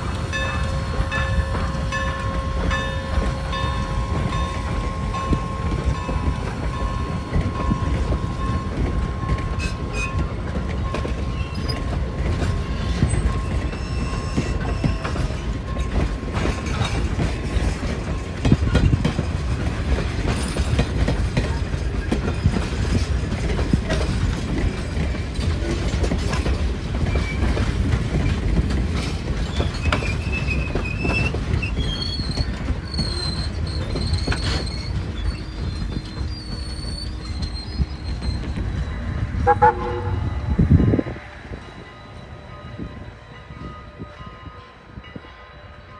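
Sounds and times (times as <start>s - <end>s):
high squeals of wheels on rails: 0.0s - 45.9s
train wheels rumbling on track: 0.0s - 45.9s.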